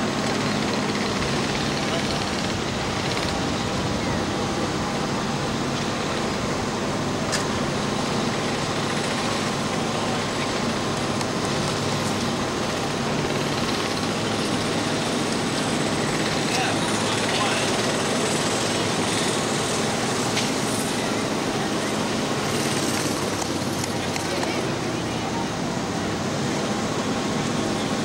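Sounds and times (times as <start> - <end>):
vehicle running on wet street: 0.0 - 28.0.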